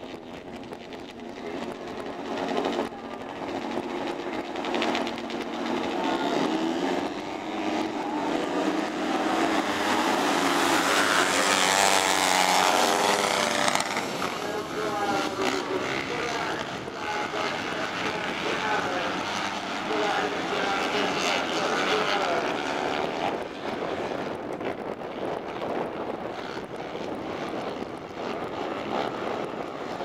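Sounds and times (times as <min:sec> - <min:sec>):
racing buggy engines revving: 0:00.0 - 0:30.0.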